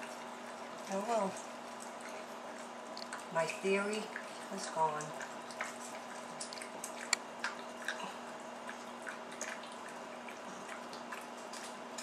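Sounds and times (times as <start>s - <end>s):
dog licking and smacking lips: 0.0s - 12.0s
faint steady hum: 0.0s - 12.0s.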